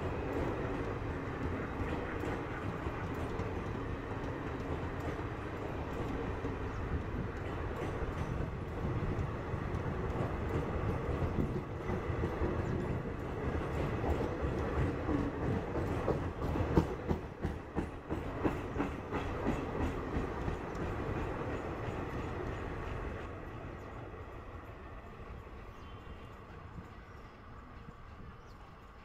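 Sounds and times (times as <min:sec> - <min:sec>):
clickety-clack over rail joints: 0:00.0 - 0:29.0
train wheels rumbling on rail: 0:00.0 - 0:29.0.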